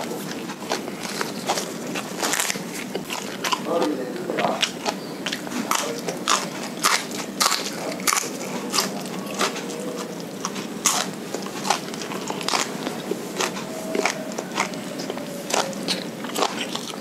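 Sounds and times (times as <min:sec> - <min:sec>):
chewing crunchy leaves: 0:00.0 - 0:17.0.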